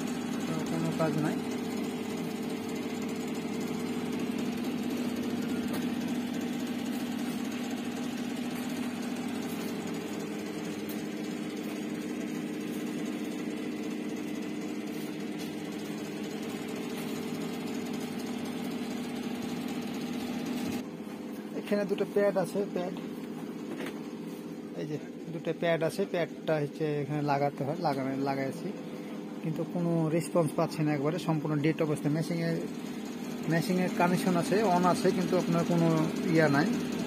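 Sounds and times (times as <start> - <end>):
electrical machine hum: 0.0 - 37.0.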